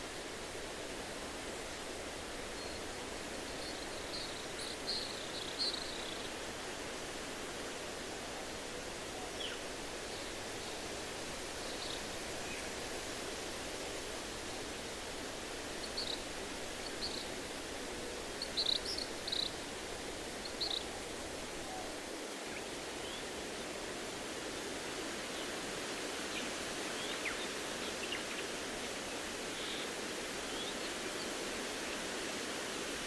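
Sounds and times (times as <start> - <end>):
wind in the trees: 0.0 - 33.0.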